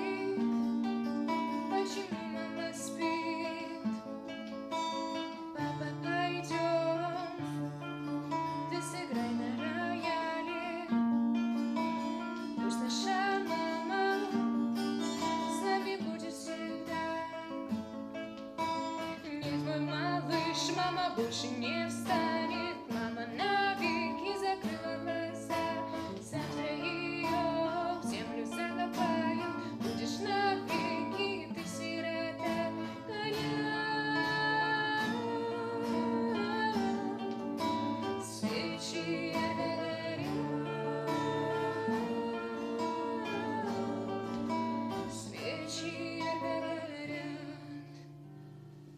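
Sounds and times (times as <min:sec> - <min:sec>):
person singing: 0:00.0 - 0:00.6, 0:01.3 - 0:04.0, 0:05.4 - 0:07.5, 0:12.6 - 0:17.6, 0:19.1 - 0:48.2
acoustic guitar picking: 0:00.0 - 0:48.9.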